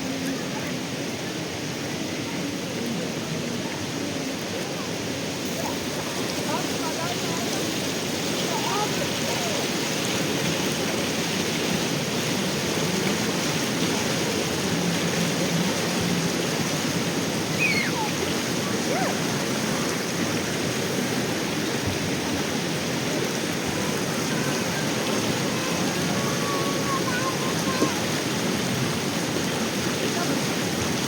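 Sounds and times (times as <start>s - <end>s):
flowing river water: 0.0s - 31.0s.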